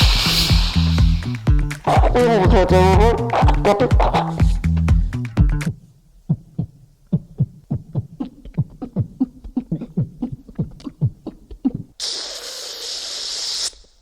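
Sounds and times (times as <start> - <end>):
beatboxing mouth thumps: 0.0 - 13.8.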